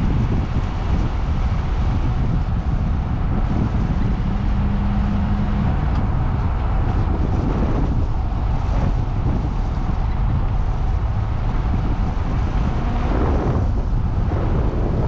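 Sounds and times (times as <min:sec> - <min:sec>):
car engine and road rumble: 0:00.0 - 0:15.0
low hum: 0:00.0 - 0:15.0
wind buffeting microphone: 0:00.0 - 0:15.0.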